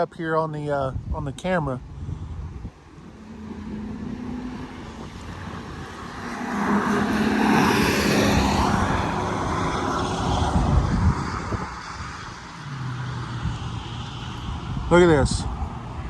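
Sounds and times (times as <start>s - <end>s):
wind buffeting microphone: 0.0s - 16.0s
vehicle passing on highway: 1.7s - 16.0s.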